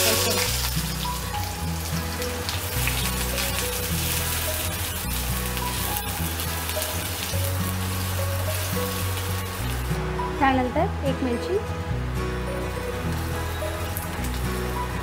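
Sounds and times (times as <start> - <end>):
onion sizzling in hot oil: 0.0 - 10.6, 12.7 - 15.0
background music: 0.0 - 15.0.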